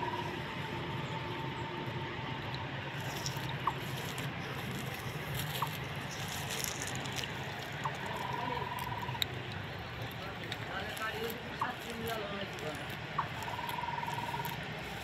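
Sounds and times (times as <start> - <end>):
wet net rustling: 2.9 - 15.0.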